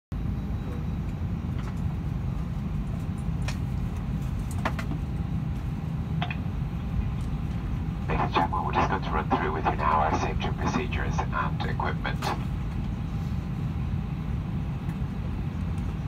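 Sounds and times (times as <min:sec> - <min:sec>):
aircraft cabin engine rumble: 0:00.2 - 0:16.0.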